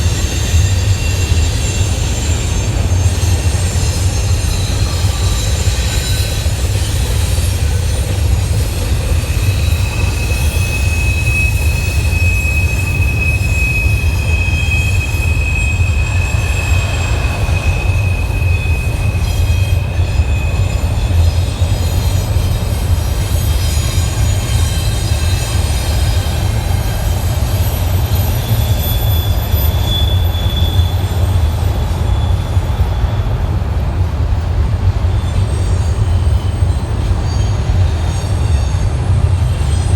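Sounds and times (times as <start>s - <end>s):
freight train rumbling past: 0.0s - 39.9s
train wheels squealing: 0.0s - 39.9s.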